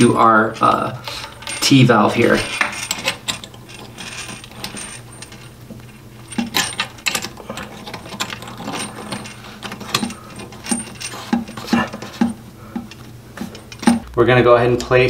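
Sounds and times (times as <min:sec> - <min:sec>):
coupling nut clicks and scrapes: 0:00.0 - 0:14.2.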